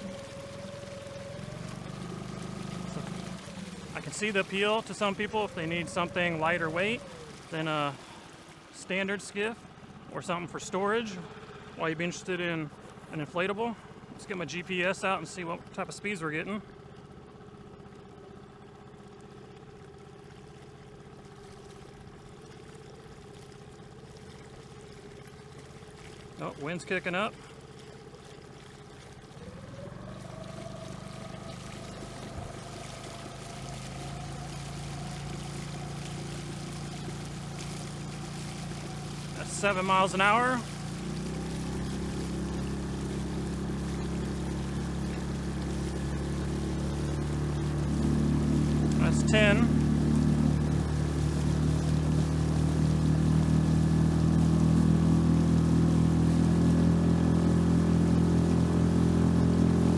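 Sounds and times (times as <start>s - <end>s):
outboard motor droning: 0.0s - 59.9s
water rushing past hull: 0.0s - 59.9s.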